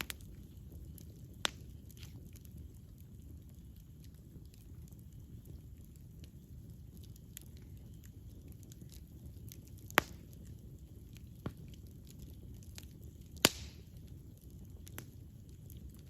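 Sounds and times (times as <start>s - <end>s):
campfire rumble: 0.0s - 16.0s
fire crackles: 0.0s - 16.0s
loud pops from burning logs: 0.0s - 16.0s.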